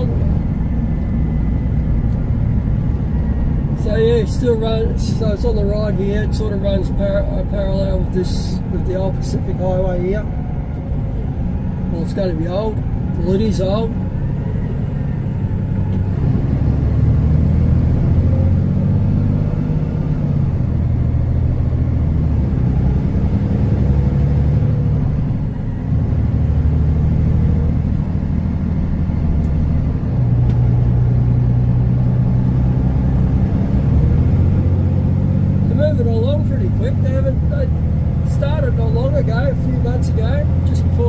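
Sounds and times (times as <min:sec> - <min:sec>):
truck engine droning: 0:00.0 - 0:41.0.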